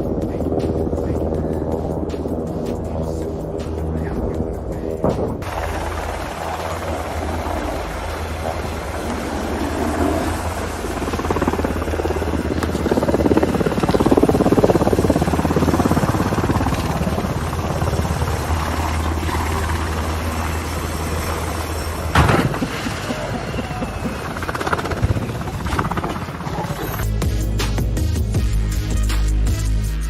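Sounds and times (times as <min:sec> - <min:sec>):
helicopter rotor and engine: 0:00.0 - 0:28.2.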